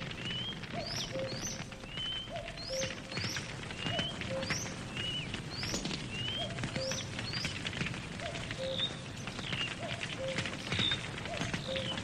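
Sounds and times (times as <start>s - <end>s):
birds chirping: 0.0s - 12.0s
campfire crackling and popping: 0.0s - 12.0s.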